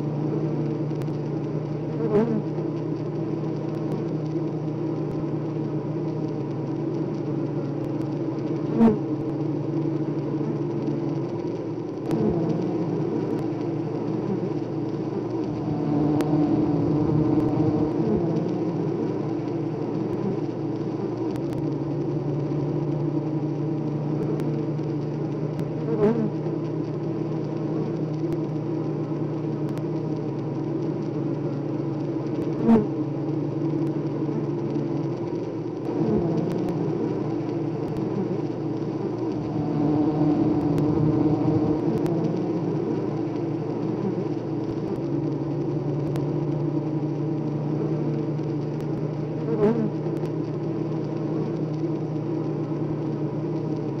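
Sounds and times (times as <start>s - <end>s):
bees humming in hive: 0.0s - 54.0s.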